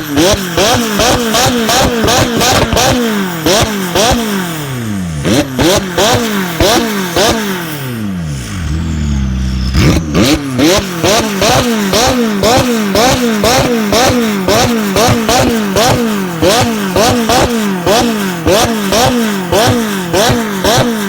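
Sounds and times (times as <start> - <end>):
car engine idling: 0.0 - 21.0
car engine revving blips: 0.0 - 21.0.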